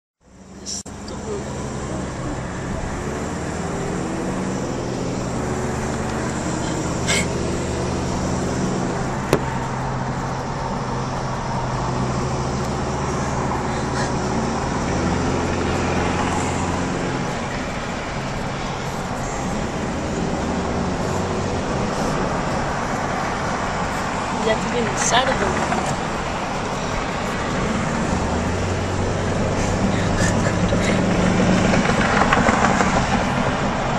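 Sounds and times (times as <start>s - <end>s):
car road and engine noise: 0.2s - 33.9s.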